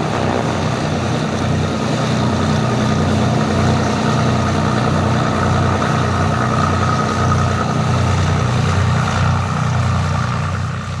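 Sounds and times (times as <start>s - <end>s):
twin piston aircraft engines: 0.0s - 11.0s.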